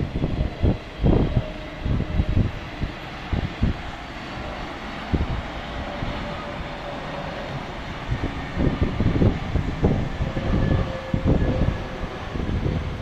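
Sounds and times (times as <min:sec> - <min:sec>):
jet engine whine and rumble: 0:00.0 - 0:13.0
wind buffeting microphone: 0:00.0 - 0:13.0.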